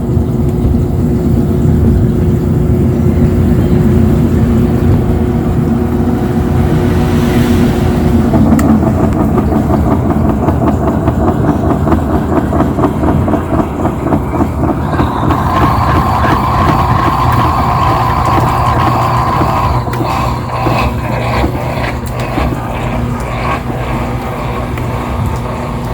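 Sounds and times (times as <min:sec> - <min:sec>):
washing machine running: 0:00.0 - 0:25.9.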